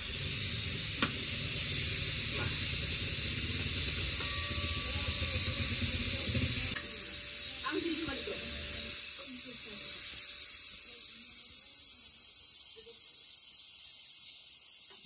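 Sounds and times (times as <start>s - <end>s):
steady hissing noise: 0.0s - 15.0s.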